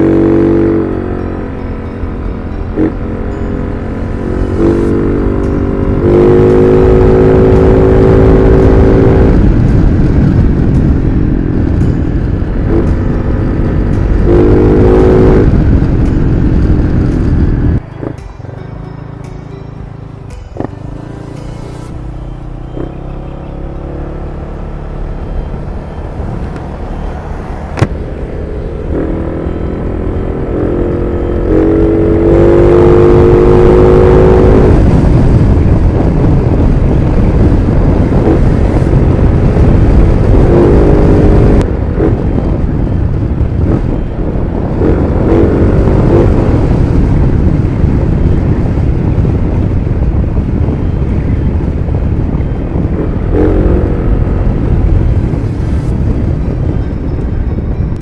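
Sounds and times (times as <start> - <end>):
scooter engine accelerating: 0.0 - 18.2, 19.0 - 56.1
wind rumble: 0.0 - 58.0.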